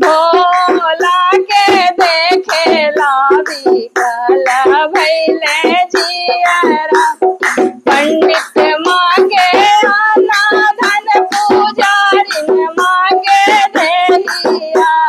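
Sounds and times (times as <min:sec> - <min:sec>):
hand drum beat: 0:00.0 - 0:15.0
woman singing devotional song: 0:00.0 - 0:15.0.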